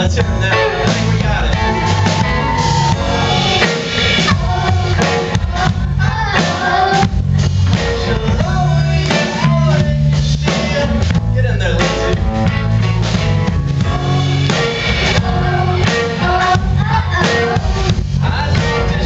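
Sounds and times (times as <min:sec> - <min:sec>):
person singing: 0:00.0 - 0:12.2, 0:13.9 - 0:19.0
drum kit: 0:00.0 - 0:19.0
electric bass guitar: 0:00.0 - 0:19.0
keyboard: 0:00.0 - 0:19.0.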